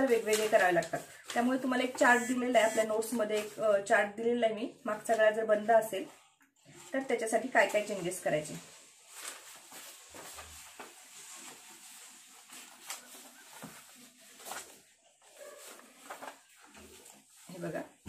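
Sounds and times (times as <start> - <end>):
paper sheets rustling: 0.0 - 3.8, 6.7 - 18.0.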